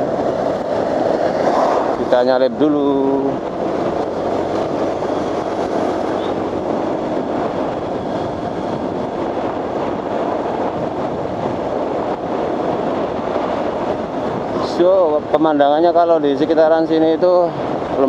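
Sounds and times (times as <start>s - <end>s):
motorcycle engine and riding noise: 0.0s - 18.0s.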